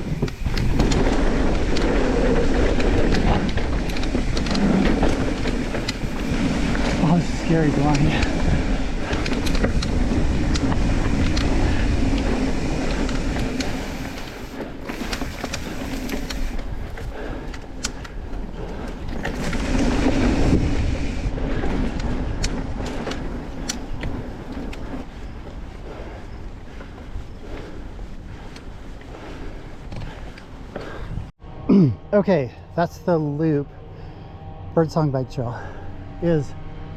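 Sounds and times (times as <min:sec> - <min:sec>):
bike clicks and rattles: 0:00.0 - 0:31.3
tyres rumbling on dirt: 0:00.0 - 0:31.3
wind on microphone: 0:00.0 - 0:31.3.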